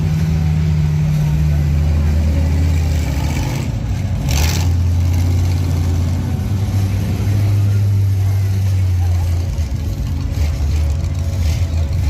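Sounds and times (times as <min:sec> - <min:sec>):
truck engine running at low revs: 0:00.0 - 0:12.0.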